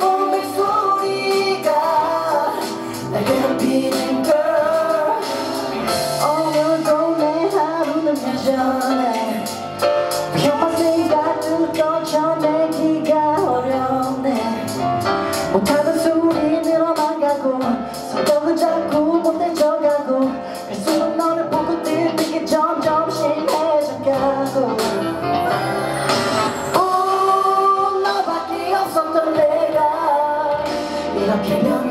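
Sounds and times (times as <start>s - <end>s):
man singing into a microphone: 0.0s - 25.8s, 26.7s - 31.9s
instrumental accompaniment with beat: 0.0s - 31.9s.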